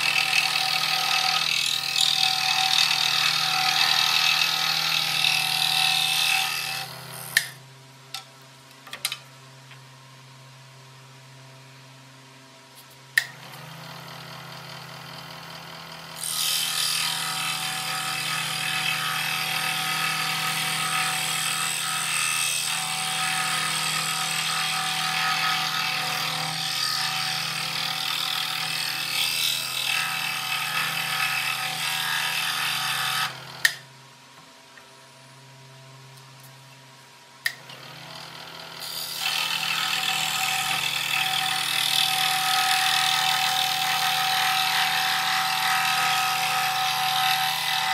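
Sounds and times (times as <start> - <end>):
scroll saw cutting wood: 0.0 - 7.6, 12.8 - 33.9, 37.4 - 47.9.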